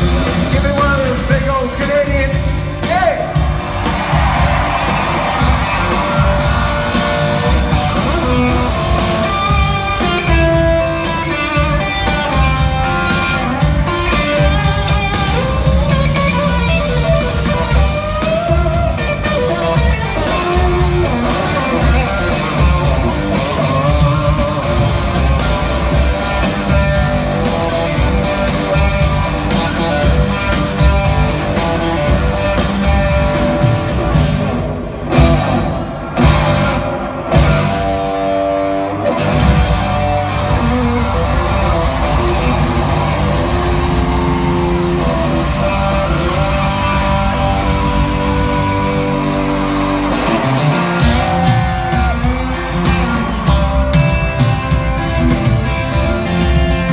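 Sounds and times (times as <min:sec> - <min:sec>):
steady drum beat: 0:00.0 - 0:38.2, 0:39.2 - 0:56.9
bass guitar: 0:00.0 - 0:56.9
electric guitar lead: 0:00.0 - 0:56.9.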